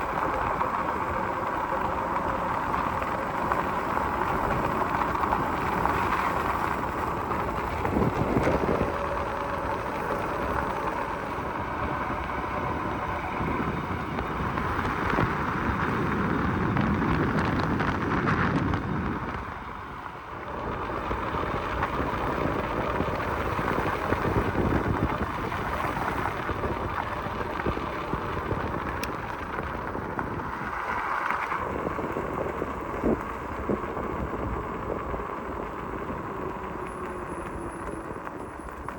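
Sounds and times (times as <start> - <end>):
electric bike riding noise: 0.0 - 38.9
wind rushing over microphone: 0.0 - 38.9.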